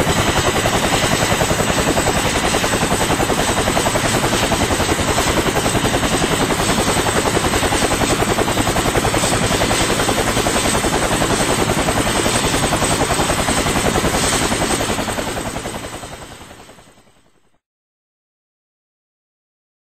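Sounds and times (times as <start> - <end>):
helicopter rotor blades chopping: 0.0 - 17.2.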